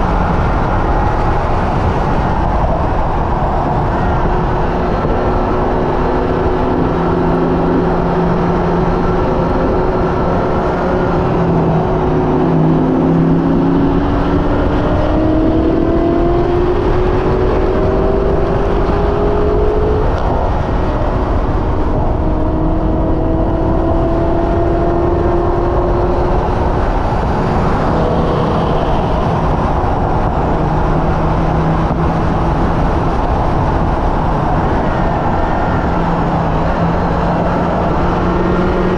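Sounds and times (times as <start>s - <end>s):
car engine accelerating: 0.0s - 38.9s
loud rushing noise: 0.0s - 38.9s.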